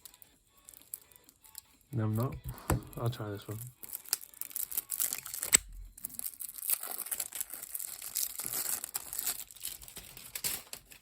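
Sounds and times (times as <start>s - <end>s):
plastic wrapping crinkling and tearing: 0.0s - 1.7s, 2.9s - 11.0s.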